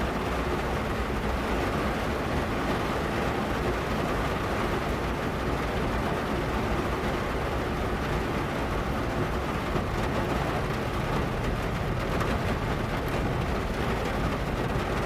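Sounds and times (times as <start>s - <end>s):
rain on sheet metal: 0.0s - 15.0s.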